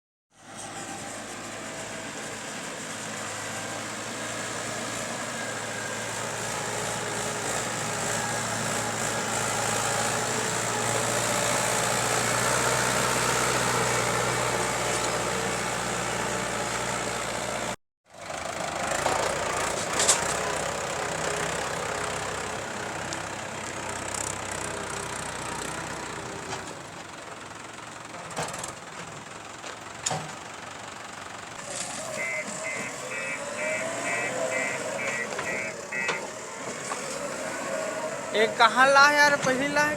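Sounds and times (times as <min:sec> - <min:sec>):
diesel machinery engine running: 0:00.4 - 0:39.9.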